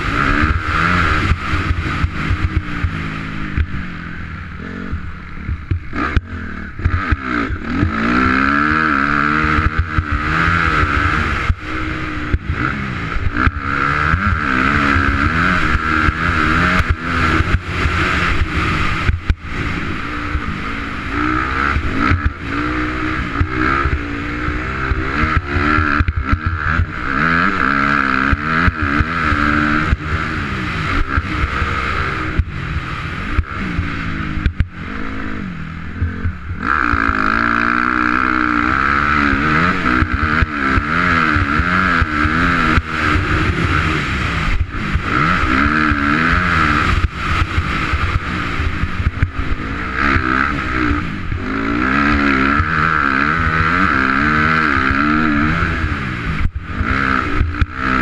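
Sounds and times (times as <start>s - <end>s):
knocks and buffets: 0.0s - 58.0s
motorcycle engine revving: 0.0s - 58.0s.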